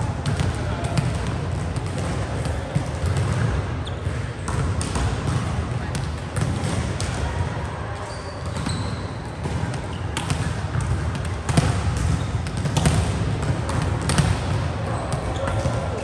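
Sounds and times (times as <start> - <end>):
balls bouncing on court floor: 0.0 - 16.0
gym hall din: 0.0 - 16.0.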